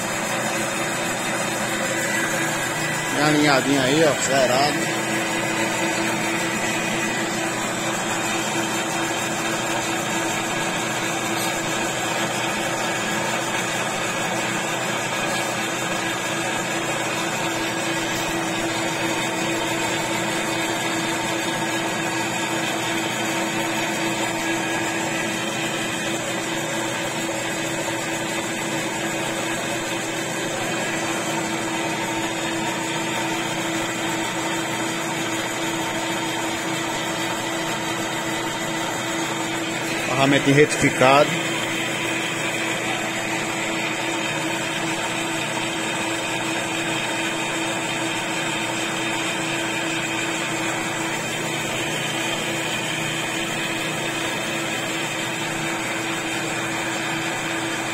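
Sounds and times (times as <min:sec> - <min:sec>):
metal lathe humming: 0:00.0 - 0:57.9.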